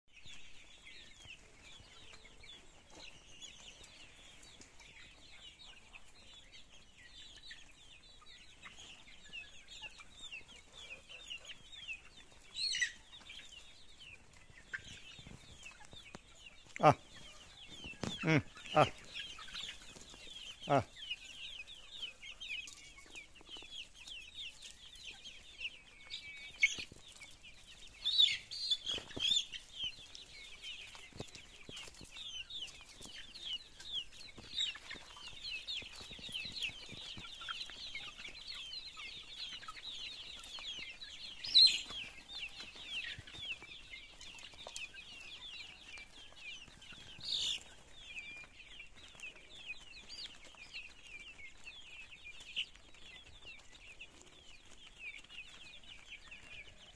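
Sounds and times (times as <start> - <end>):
chicks peeping: 0.1 - 56.9.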